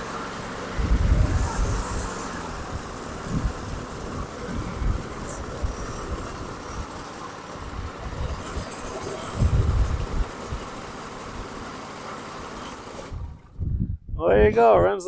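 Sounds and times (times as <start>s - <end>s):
lawn mower engine running: 0.0s - 13.6s.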